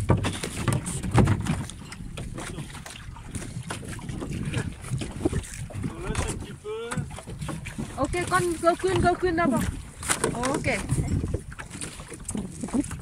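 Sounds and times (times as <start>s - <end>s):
small knocks against hull: 0.0s - 13.0s
water lapping: 0.0s - 13.0s
wind buffeting microphone: 0.0s - 13.0s.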